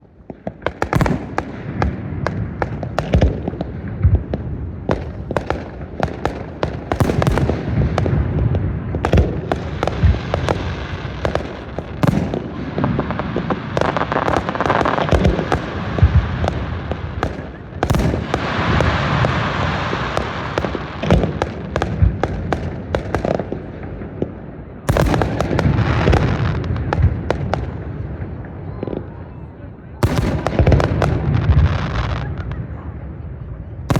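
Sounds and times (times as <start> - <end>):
fireworks crackling: 0.0 - 29.3, 30.0 - 33.9.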